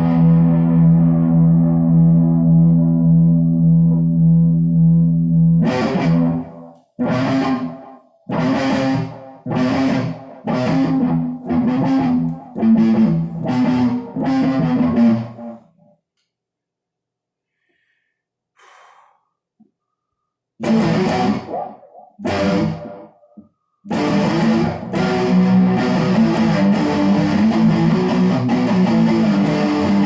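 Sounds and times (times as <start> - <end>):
guitar strumming chords: 0.0 - 15.6, 20.6 - 23.2, 23.9 - 30.0.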